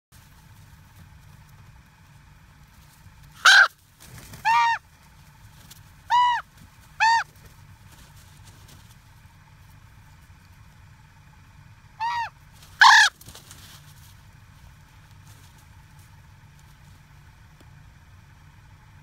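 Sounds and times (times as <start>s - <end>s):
ravens calling: 0.4s - 17.2s.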